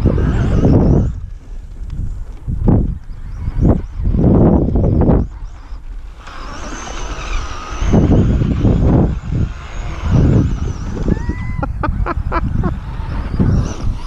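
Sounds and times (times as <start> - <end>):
electric motor whining: 0.0 - 14.0
wind buffeting microphone: 0.0 - 14.0.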